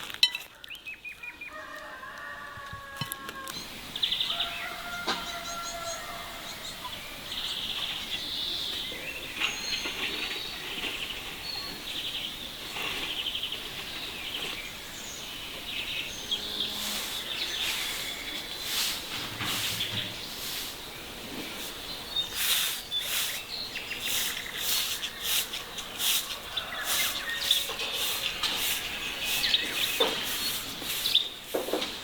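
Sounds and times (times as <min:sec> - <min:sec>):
small birds chirping: 0:00.2 - 0:01.6, 0:03.4 - 0:32.0.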